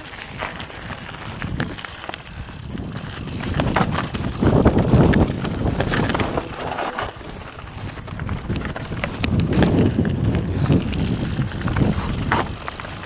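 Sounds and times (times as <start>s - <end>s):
bike clicks and knocks: 0.0s - 13.0s
bike tyres running over stones: 0.0s - 13.0s
wind on microphone: 0.0s - 13.0s.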